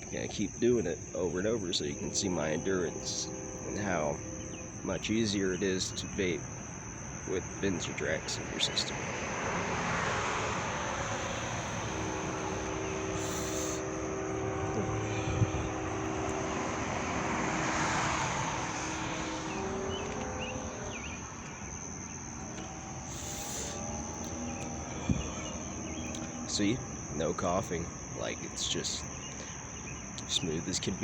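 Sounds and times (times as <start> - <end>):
distant engine drone: 0.0 - 31.0
high-pitched insect trill: 0.0 - 31.0.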